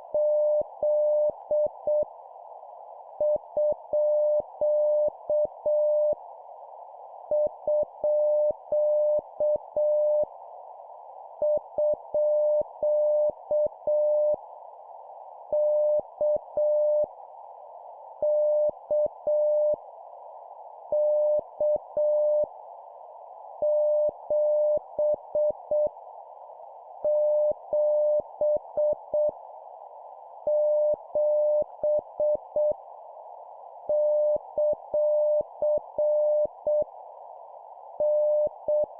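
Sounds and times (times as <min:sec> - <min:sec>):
soft steady hiss: 0:00.0 - 0:38.9.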